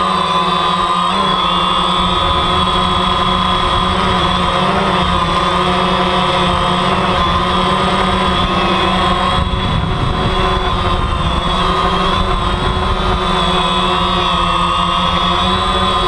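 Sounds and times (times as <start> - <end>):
drone propellers whining: 0.0 - 16.0
low rumbling noise: 0.0 - 16.0.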